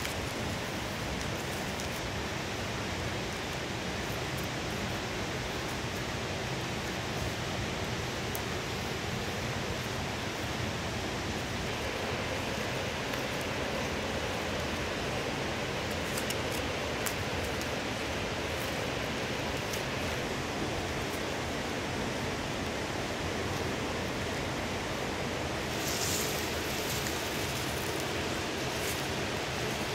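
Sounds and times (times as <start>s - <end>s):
palm fronds crackling: 0.0s - 29.9s
river water rushing: 0.0s - 29.9s.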